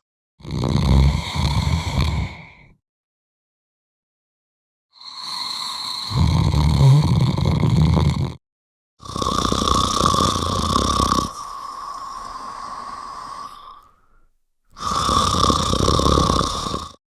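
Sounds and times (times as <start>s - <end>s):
person snoring: 0.4s - 2.8s, 5.0s - 8.4s, 9.0s - 17.0s.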